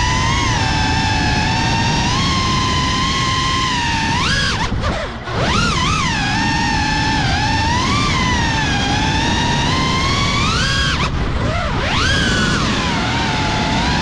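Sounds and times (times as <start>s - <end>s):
drone motors whining: 0.0s - 14.0s
wind rush: 0.0s - 14.0s.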